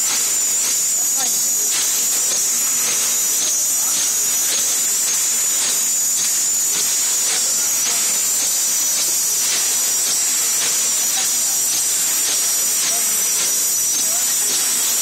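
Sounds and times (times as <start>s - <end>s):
wrapping machine hiss: 0.0s - 15.0s.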